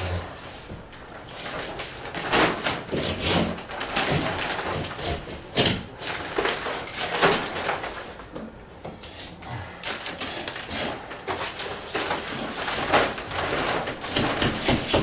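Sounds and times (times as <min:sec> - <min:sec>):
scraping and knocking of repair work: 0:00.0 - 0:15.0.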